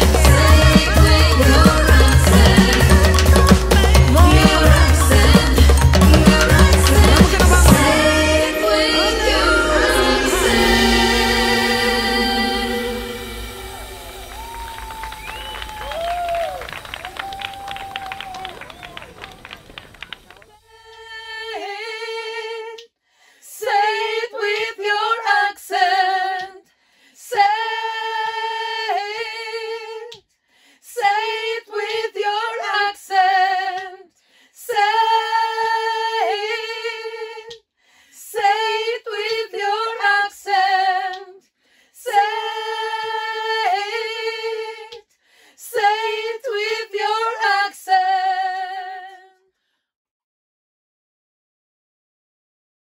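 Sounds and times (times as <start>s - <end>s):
women singing a cappella: 0.0s - 14.0s, 20.7s - 49.5s.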